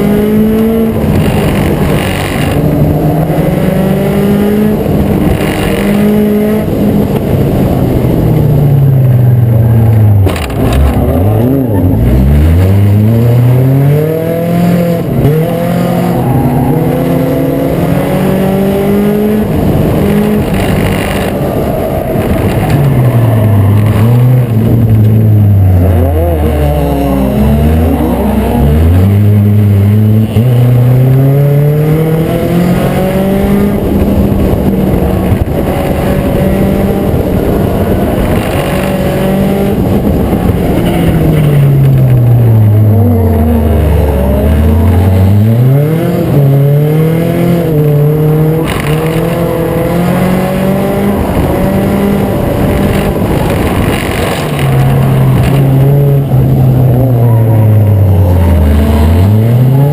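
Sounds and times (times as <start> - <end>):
race car engines at full throttle: 0.0 - 59.9.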